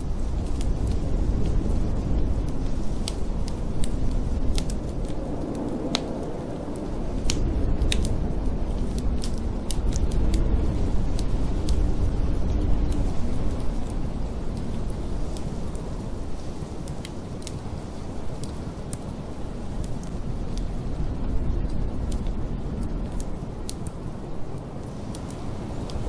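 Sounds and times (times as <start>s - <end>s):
blizzard wind rushing: 0.0s - 26.0s
sharp pops of fire: 0.0s - 26.0s
wood fire crackling: 0.0s - 26.0s.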